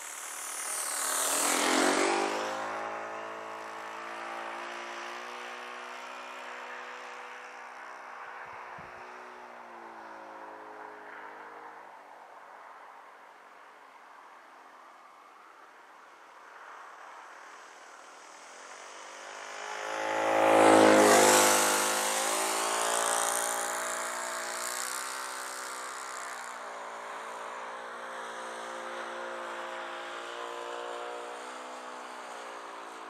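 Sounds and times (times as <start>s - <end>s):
model airplane engine flying by: 0.0s - 12.0s, 16.6s - 33.0s.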